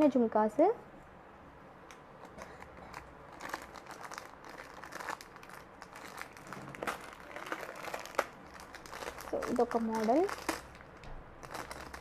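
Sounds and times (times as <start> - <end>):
packaging crinkling: 2.2 - 12.0.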